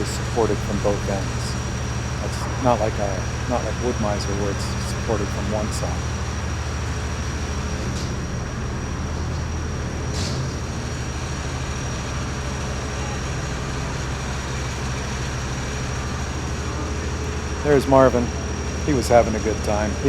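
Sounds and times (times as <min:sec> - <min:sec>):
sawmill engine droning: 0:00.0 - 0:20.0.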